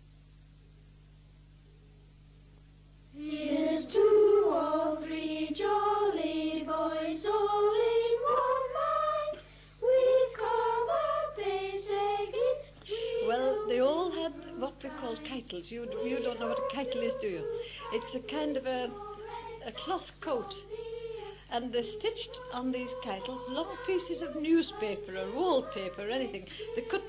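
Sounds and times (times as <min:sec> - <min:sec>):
faint steady hum: 0:00.0 - 0:27.0
high-pitched folk singing: 0:03.2 - 0:27.0.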